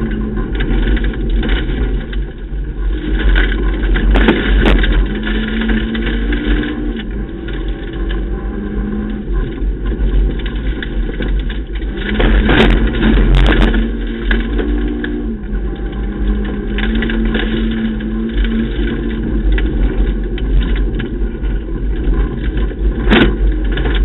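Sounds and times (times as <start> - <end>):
car engine running hard: 0.0 - 24.0
tyres rumbling on gravel: 0.0 - 24.0.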